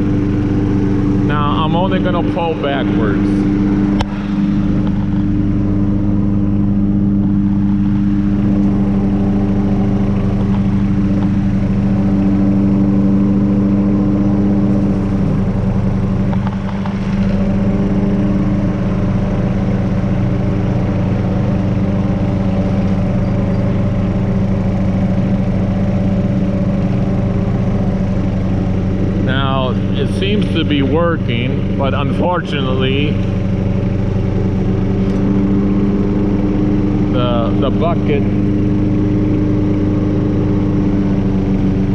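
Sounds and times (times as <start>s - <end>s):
lawnmower engine running: 0.0s - 41.9s
tractor engine: 0.0s - 41.9s.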